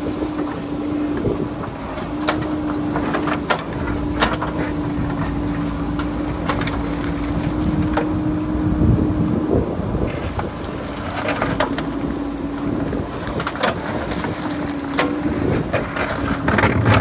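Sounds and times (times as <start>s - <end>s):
diesel engine under load: 0.0s - 17.0s
wind buffeting microphone: 0.0s - 17.0s.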